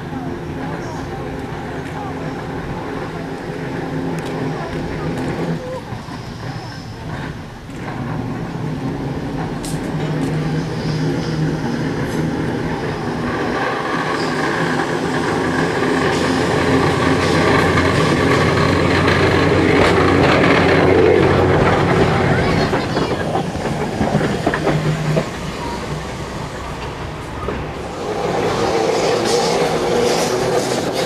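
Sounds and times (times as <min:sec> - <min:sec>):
tram motor hum: 0:00.0 - 0:31.0
wheels rumbling on rails: 0:00.0 - 0:31.0.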